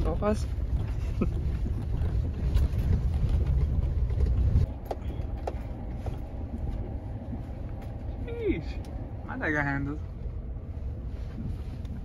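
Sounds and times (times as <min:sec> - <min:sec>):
truck rumbling on dirt trail: 0:00.0 - 0:12.0.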